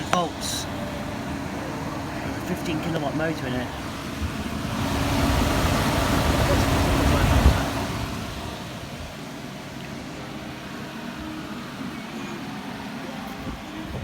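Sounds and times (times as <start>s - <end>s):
fan heater blowing air: 0.0s - 14.0s.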